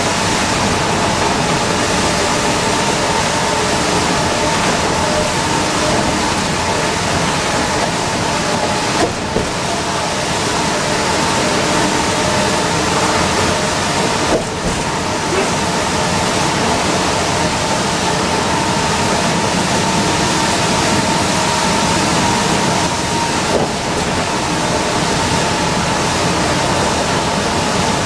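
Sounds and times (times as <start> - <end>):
bus engine and tyre noise: 0.0 - 28.0.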